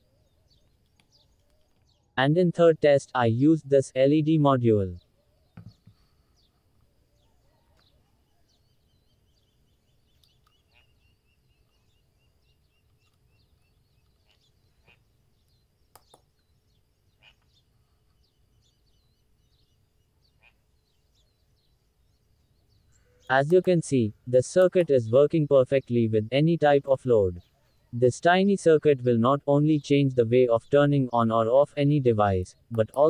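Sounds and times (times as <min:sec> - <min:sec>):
distant bird chirps: 0:00.0 - 0:33.0.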